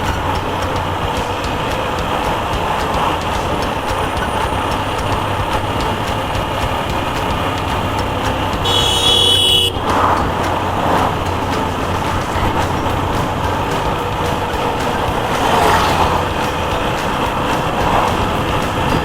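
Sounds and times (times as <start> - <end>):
motorcycle engine: 0.0 - 19.0
road and wind noise: 0.0 - 19.0
vehicle horn: 0.0 - 19.0.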